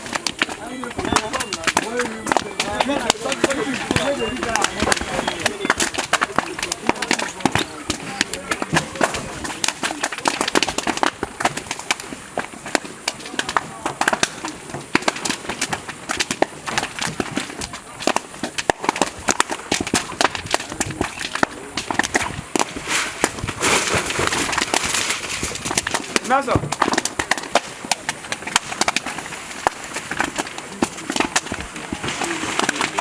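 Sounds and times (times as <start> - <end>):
large fire crackling and popping: 0.0 - 33.0
people's voices: 0.0 - 33.0.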